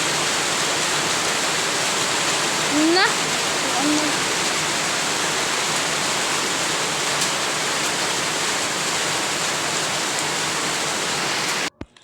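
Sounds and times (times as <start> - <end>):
heavy rain falling: 0.0 - 11.7.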